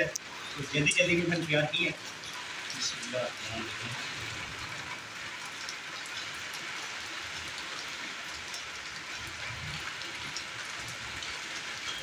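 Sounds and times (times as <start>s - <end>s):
heavy rain: 0.0s - 12.0s
raindrops ticking on surfaces: 0.0s - 12.0s.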